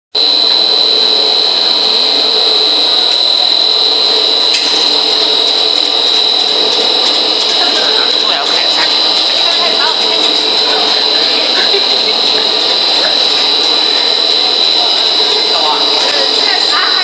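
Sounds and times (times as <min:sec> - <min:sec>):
extruder machine running: 0:00.1 - 0:17.0
high-pitched whine: 0:00.2 - 0:17.0.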